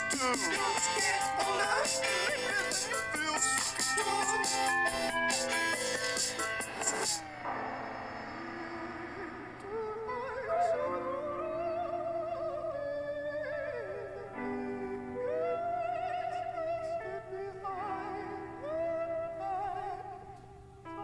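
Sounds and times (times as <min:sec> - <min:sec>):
wordless operatic singing: 0:00.0 - 0:05.2, 0:08.3 - 0:20.4.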